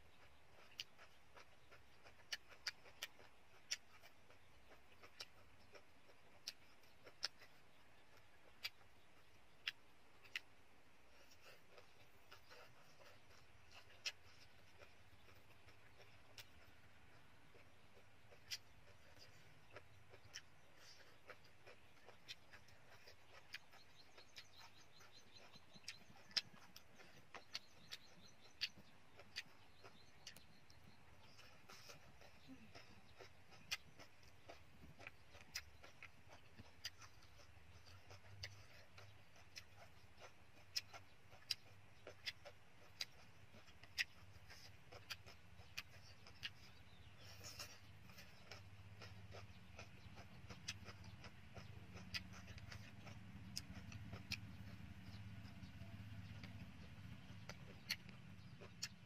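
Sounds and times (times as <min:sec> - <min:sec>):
chewing smacks: 0:00.0 - 0:59.0.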